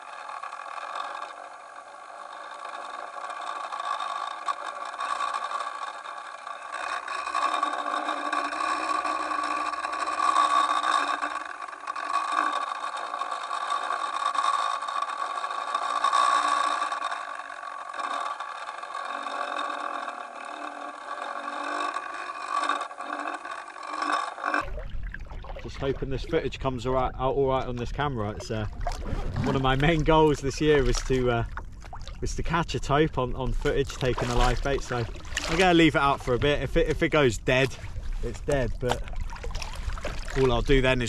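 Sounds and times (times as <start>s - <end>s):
underwater engine-like hum: 0.0s - 41.0s.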